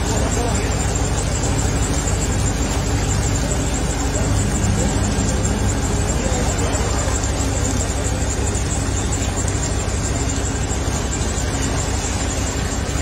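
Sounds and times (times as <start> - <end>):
engine rumbling slowly: 0.0 - 13.0.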